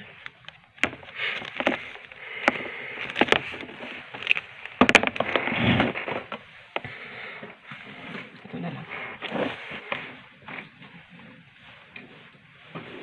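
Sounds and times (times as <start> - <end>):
rustling of cord over plastic packaging: 0.0 - 13.0.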